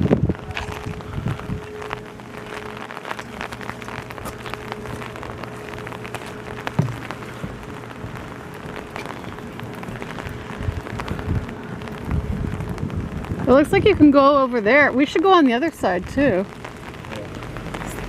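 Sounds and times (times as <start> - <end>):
small scattered clicks and crackles: 0.0 - 18.0
wind gusting on microphone: 0.0 - 18.0.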